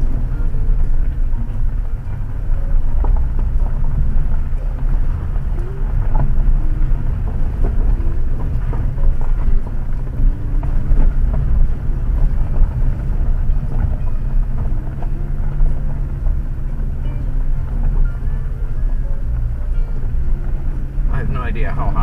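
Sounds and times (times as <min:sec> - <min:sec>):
engine and tyres rumbling: 0:00.0 - 0:22.0
gravel crunching under wheels: 0:00.0 - 0:22.0
stones and suspension knocking: 0:00.0 - 0:22.0.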